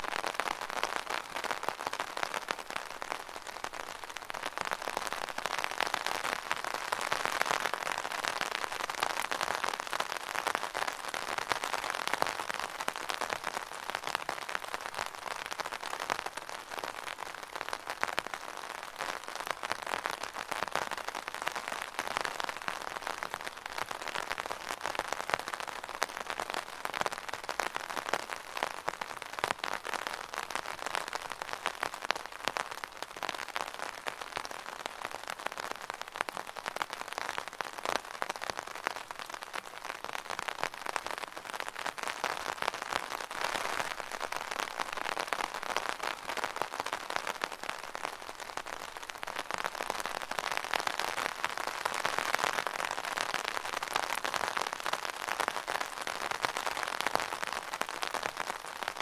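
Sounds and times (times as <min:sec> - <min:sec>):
rain drumming on an umbrella: 0:00.0 - 0:59.0.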